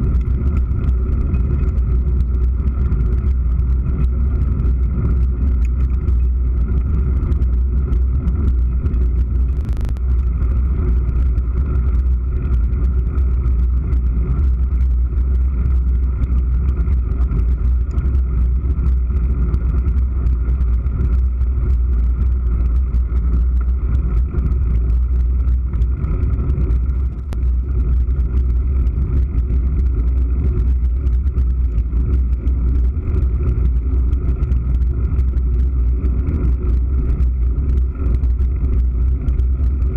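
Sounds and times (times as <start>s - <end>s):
low rumble of wind: 0.0s - 39.9s.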